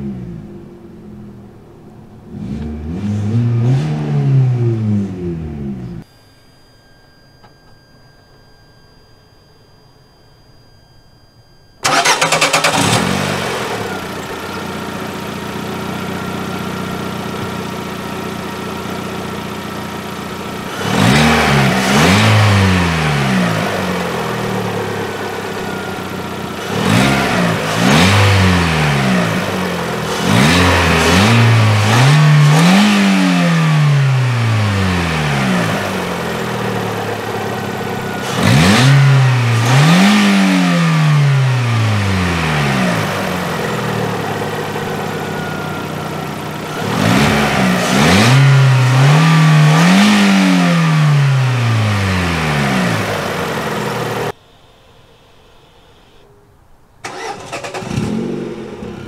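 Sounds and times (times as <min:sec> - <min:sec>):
car engine revving: 0:00.0 - 0:06.0, 0:11.8 - 0:54.4, 0:57.0 - 0:59.0.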